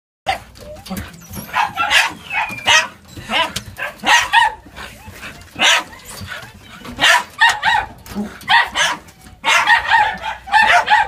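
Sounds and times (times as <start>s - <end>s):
puppy yapping: 0.3s - 11.0s.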